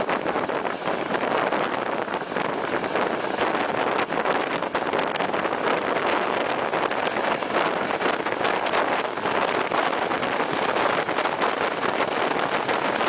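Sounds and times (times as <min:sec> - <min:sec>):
train running on rails: 0:00.0 - 0:13.0
wind rushing over microphone: 0:00.0 - 0:13.0.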